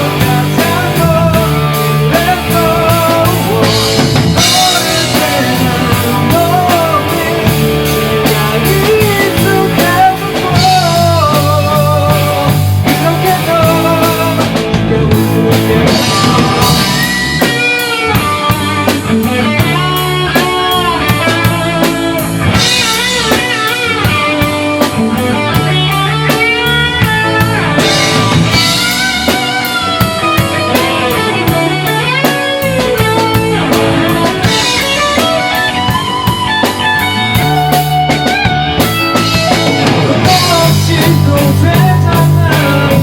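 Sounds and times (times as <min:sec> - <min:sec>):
electric guitar melody: 0:00.0 - 0:43.0
rock band playing instrumental: 0:00.0 - 0:43.0.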